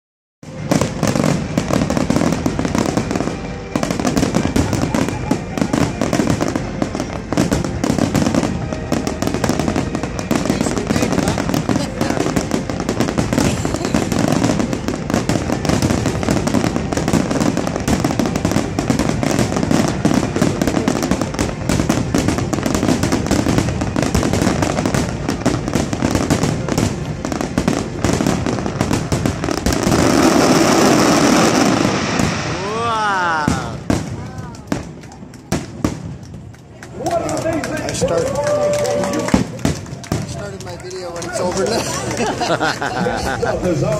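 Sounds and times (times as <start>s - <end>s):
fireworks crackling: 0.4s - 43.9s.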